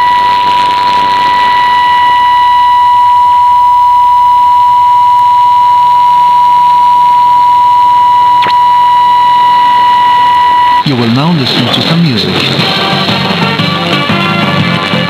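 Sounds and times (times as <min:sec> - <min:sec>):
steady test tone: 0:00.0 - 0:13.2
radio channel hiss: 0:00.0 - 0:13.8.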